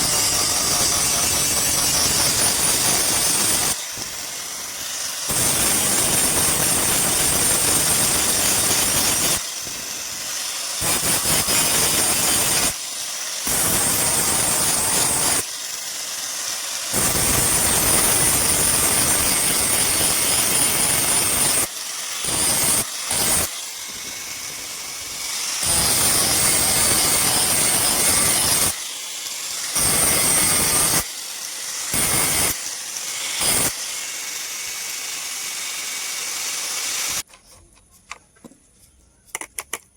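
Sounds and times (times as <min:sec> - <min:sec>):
steel grinding on wheel: 0:00.0 - 0:15.5, 0:16.9 - 0:37.3
power grinder whining: 0:00.0 - 0:37.3.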